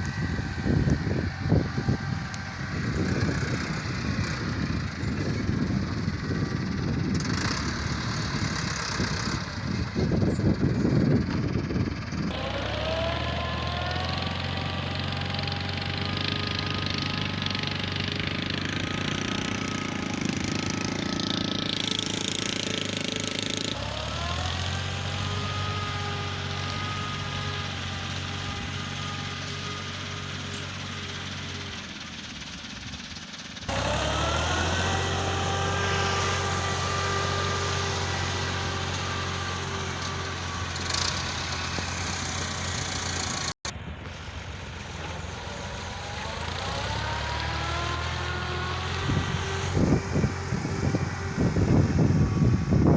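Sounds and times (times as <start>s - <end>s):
diesel machinery engine revving: 0.0s - 52.9s.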